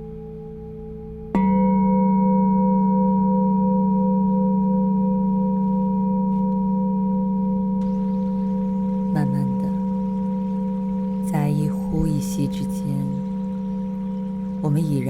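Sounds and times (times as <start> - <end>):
singing bowl ringing: 1.3 - 15.0.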